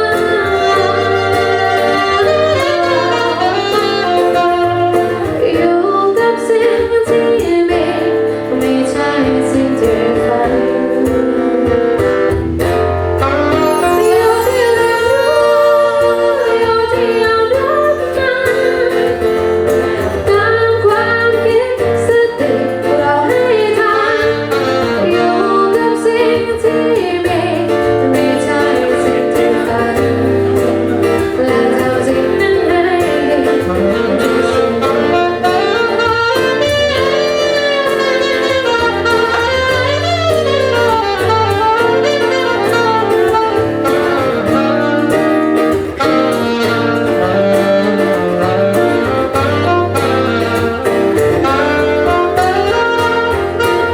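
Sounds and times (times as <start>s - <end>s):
guitar chords: 0.0s - 53.9s
lead melody: 0.0s - 53.9s
live band music: 0.0s - 53.9s.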